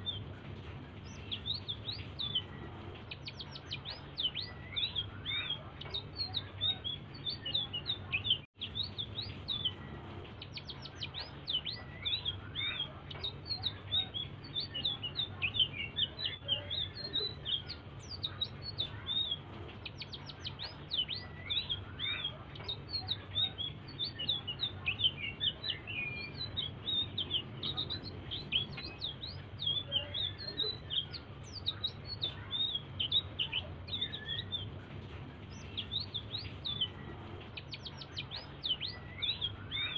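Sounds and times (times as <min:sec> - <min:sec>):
songbird chirping and trilling: 0:00.0 - 0:39.9
steady low hum: 0:00.0 - 0:39.9.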